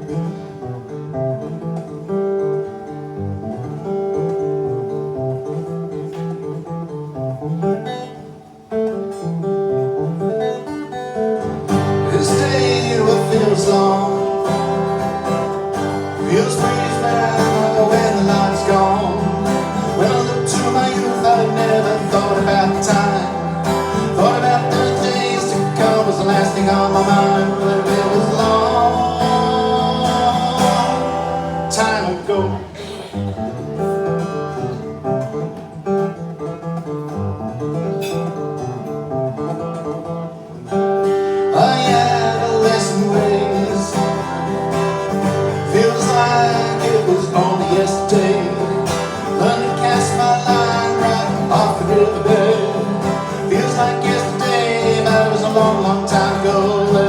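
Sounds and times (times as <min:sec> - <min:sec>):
acoustic guitar music: 0:00.0 - 0:57.0.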